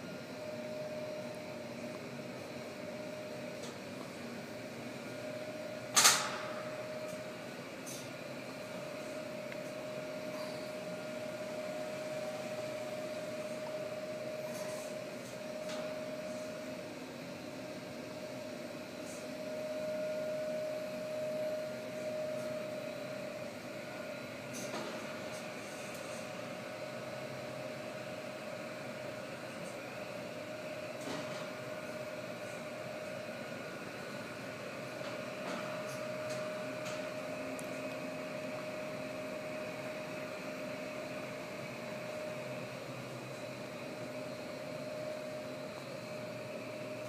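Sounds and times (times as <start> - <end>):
mid-pitched whine: 0.0 - 47.0
ventilation fans humming: 0.0 - 47.0.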